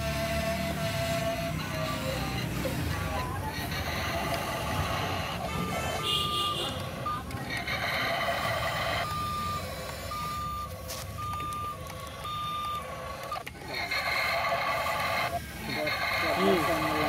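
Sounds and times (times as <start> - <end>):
electronic reversing beeper: 0.2 - 17.0.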